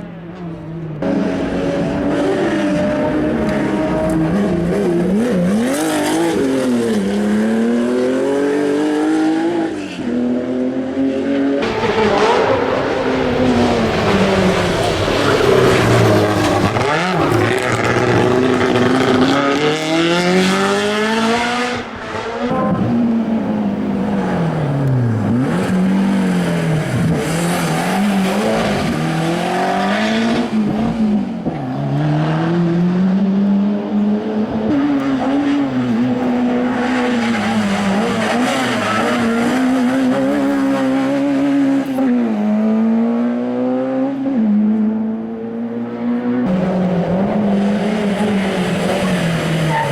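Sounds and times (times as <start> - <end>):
racing car engine revving: 1.0 - 49.9.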